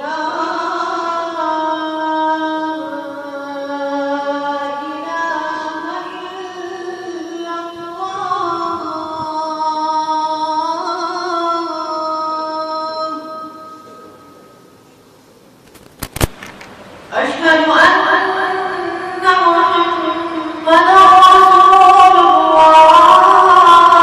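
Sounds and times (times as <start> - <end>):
boy reciting melodically: 0.0 - 14.5, 17.1 - 24.0.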